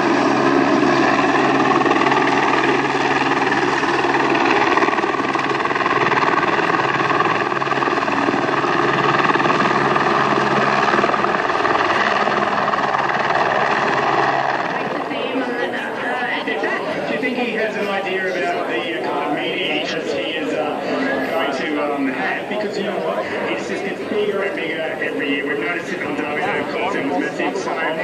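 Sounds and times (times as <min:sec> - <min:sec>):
helicopter flying overhead: 0:00.0 - 0:28.0.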